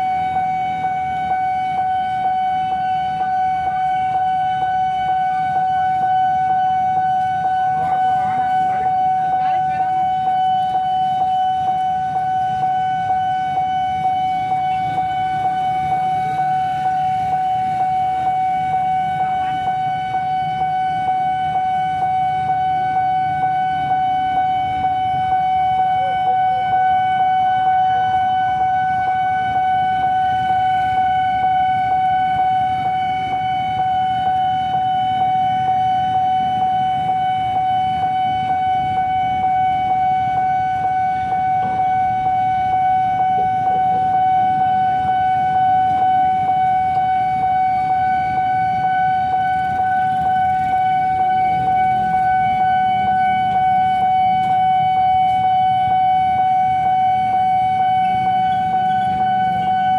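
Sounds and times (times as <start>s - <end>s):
level crossing alarm tone: 0.0s - 59.9s.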